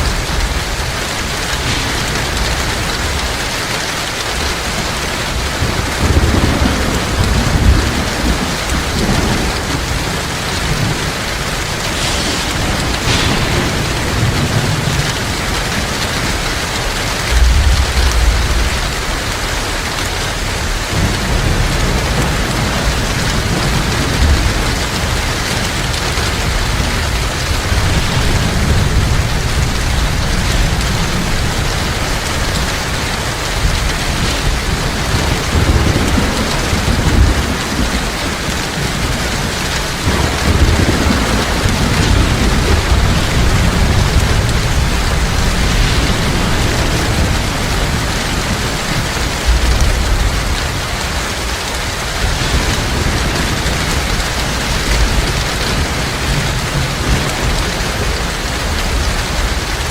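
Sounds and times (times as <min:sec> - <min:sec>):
heavy rain falling: 0:00.0 - 0:59.9
low thunder rumbling: 0:00.0 - 0:59.9.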